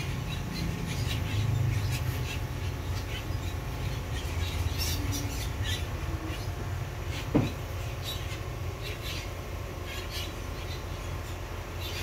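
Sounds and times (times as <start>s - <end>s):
birds chirping and squawking: 0.0s - 12.0s
steady low hum: 0.0s - 12.0s.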